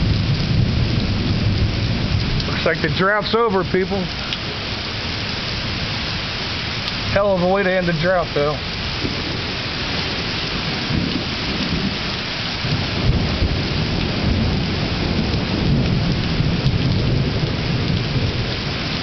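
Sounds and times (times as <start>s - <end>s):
heavy rain pouring: 0.0s - 19.0s
low rumble of thunder: 0.0s - 19.0s.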